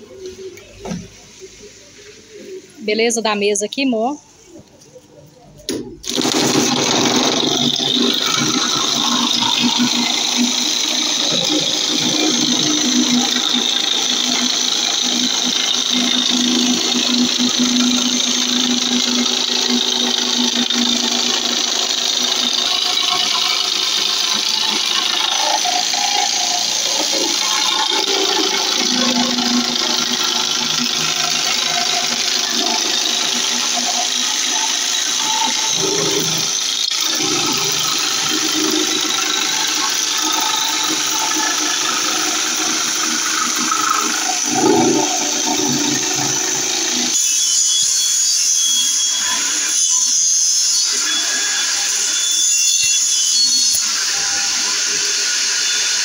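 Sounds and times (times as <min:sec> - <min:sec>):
electric jigsaw cutting wood: 0:06.0 - 0:56.0.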